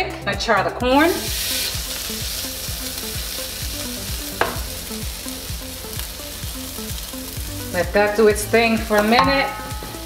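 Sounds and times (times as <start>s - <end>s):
corn sizzling in a skillet: 1.0s - 10.0s.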